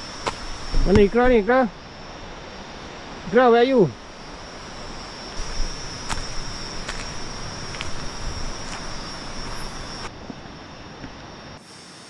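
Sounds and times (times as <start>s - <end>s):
insect trilling: 0.0s - 12.0s
steady hiss: 0.0s - 12.0s.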